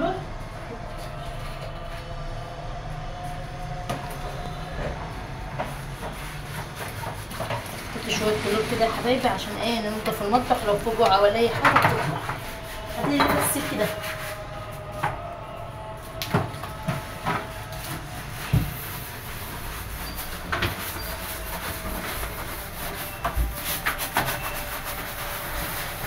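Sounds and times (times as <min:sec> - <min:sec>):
knocks and clatters of household items: 0:03.9 - 0:15.3, 0:16.1 - 0:26.0.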